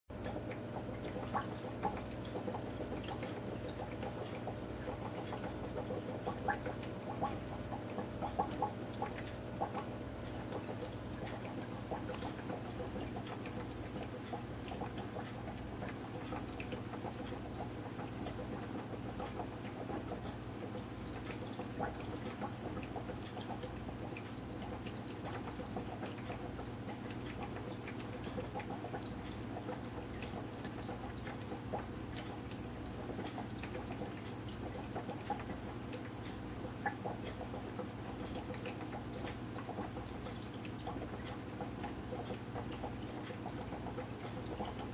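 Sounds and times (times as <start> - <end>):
aquarium filter hum: 0.1 - 44.9
water trickling and bubbling: 0.1 - 44.9.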